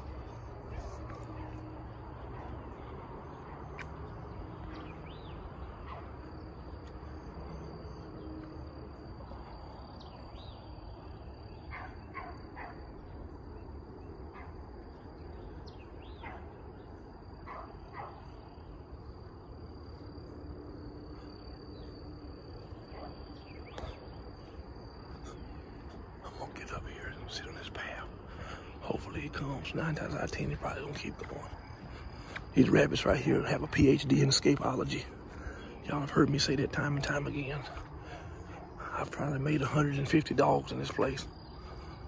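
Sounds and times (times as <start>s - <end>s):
insect drone: 0.0s - 42.0s.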